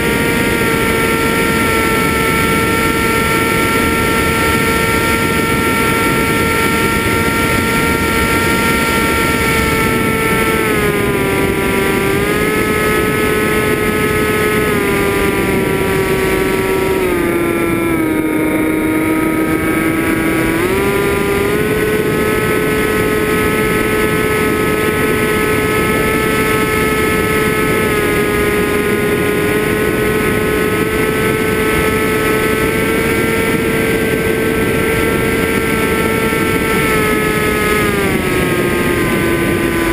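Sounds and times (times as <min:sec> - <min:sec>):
constant rushing noise: 0:00.0 - 0:39.9
drone motors whining: 0:00.0 - 0:39.9.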